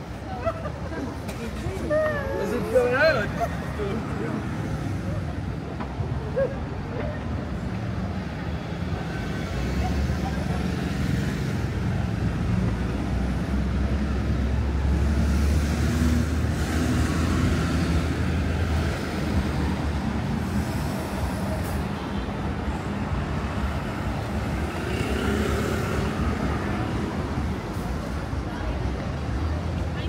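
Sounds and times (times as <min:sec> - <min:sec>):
heavy vehicle engine rumble: 0:00.0 - 0:30.0
road traffic passing: 0:00.0 - 0:30.0.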